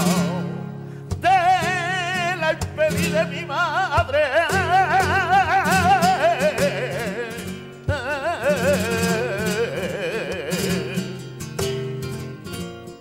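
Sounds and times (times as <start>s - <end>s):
man singing melismatic lines: 0.0s - 12.3s
flamenco guitar strumming: 0.0s - 13.0s.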